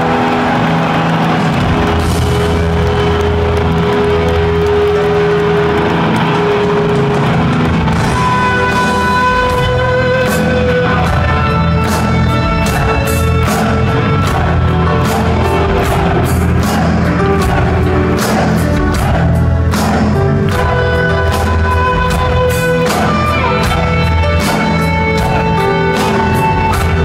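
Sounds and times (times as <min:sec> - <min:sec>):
heavy metal band playing: 0:00.0 - 0:27.0.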